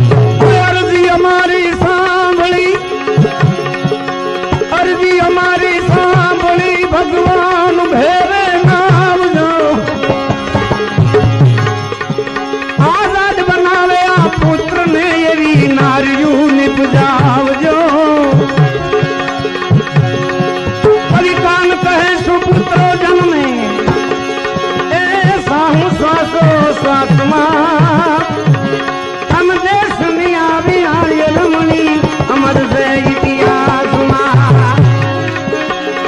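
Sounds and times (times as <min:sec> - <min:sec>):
ornamented melody line: 0:00.0 - 0:36.0
tabla strokes: 0:00.0 - 0:36.0.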